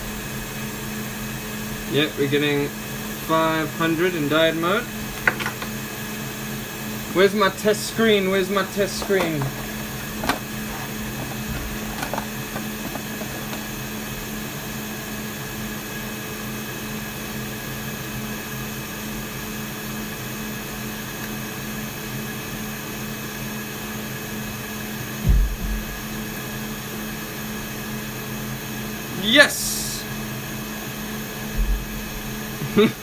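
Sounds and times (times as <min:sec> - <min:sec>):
equipment hum and fan noise: 0:00.0 - 0:33.0.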